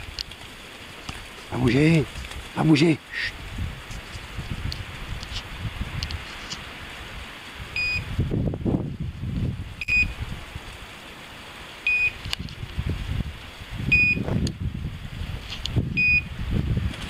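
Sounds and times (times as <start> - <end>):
rustling through undergrowth: 0.0 - 17.0.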